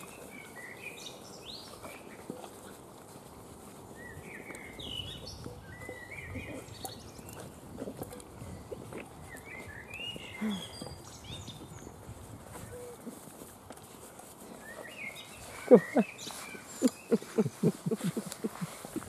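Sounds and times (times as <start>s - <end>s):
birds chirping: 0.0s - 13.3s, 13.9s - 19.0s
puppies chewing and lapping: 0.0s - 19.0s.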